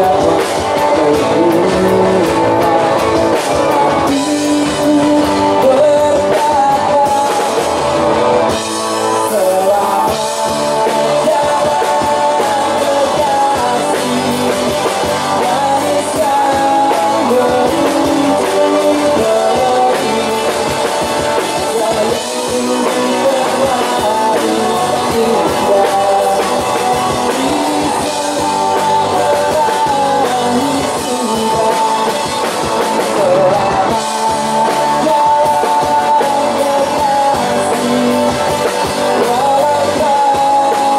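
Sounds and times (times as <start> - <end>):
electric guitars: 0.0 - 40.9
live rock band: 0.0 - 40.9
man singing: 0.0 - 40.9.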